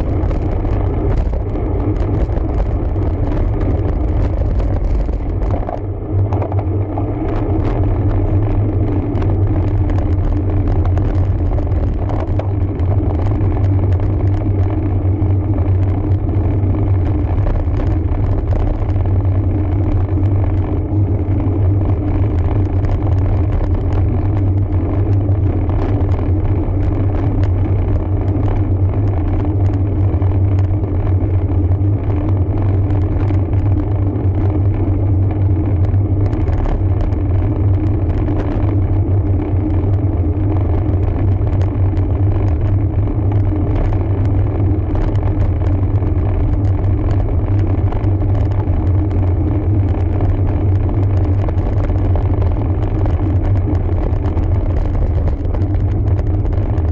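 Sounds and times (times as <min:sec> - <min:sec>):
wind and road rumble: 0:00.0 - 0:56.9.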